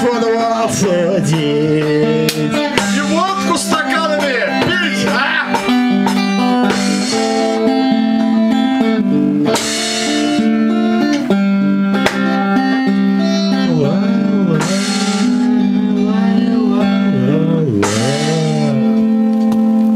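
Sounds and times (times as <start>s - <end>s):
acoustic guitar strummed: 0.0s - 19.9s.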